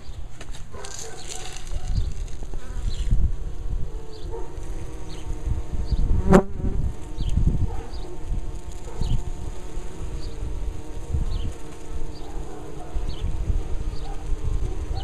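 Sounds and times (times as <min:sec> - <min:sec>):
bees buzzing: 0:00.6 - 0:15.0.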